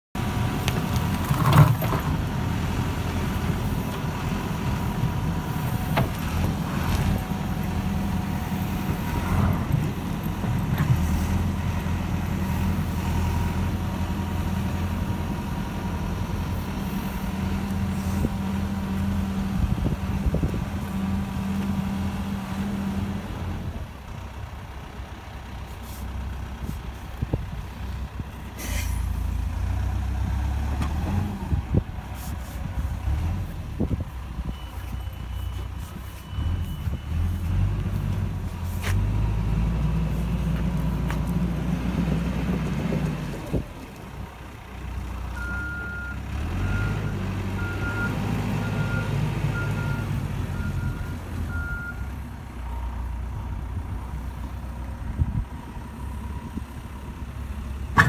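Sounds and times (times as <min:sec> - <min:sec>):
diesel engine running: 0:00.1 - 0:58.0.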